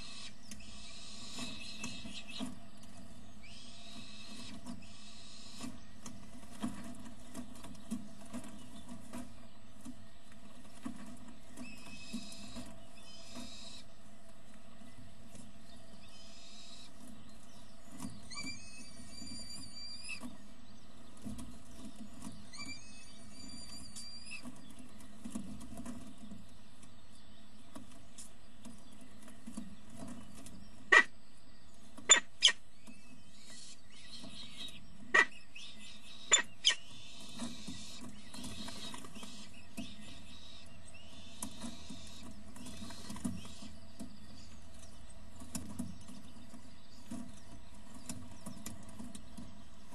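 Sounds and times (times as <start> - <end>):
chicks begging calls: 0.0 - 49.9
steady electrical hum: 0.0 - 49.9.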